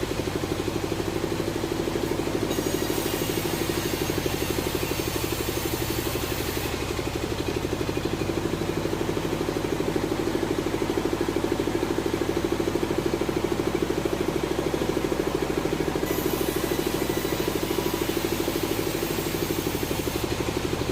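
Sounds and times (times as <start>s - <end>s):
engine running with pulsing beat: 0.0s - 20.9s.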